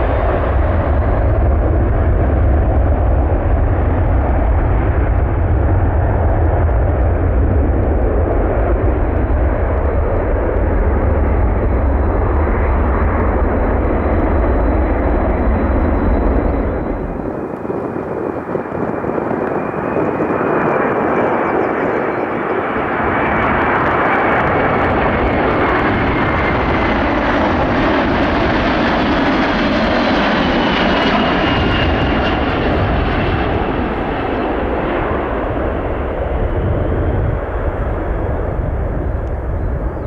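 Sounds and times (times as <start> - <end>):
jet engines rushing and whining: 0.0 - 40.0.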